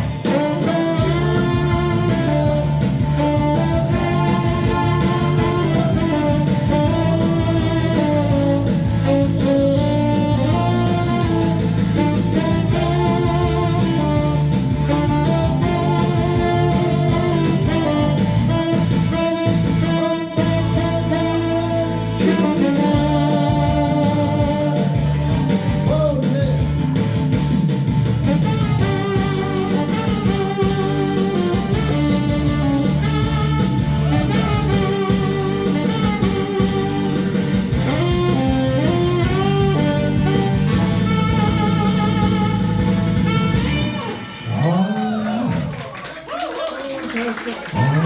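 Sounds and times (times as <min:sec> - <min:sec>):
guitar accompaniment: 0:00.0 - 0:45.5
saxophone melody: 0:00.0 - 0:45.8.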